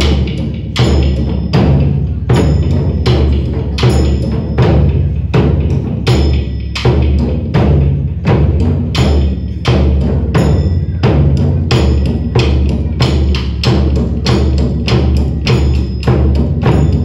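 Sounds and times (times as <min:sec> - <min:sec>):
drums beaten in steady rhythm: 0:00.0 - 0:17.0.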